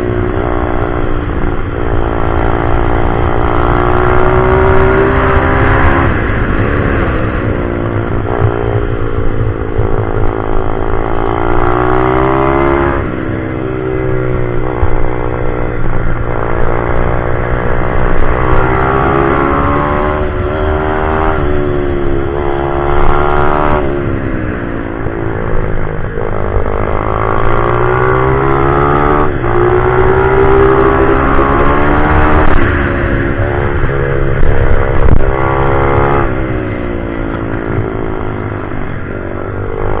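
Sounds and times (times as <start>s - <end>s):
pit bike engine revving: 0.0s - 40.0s.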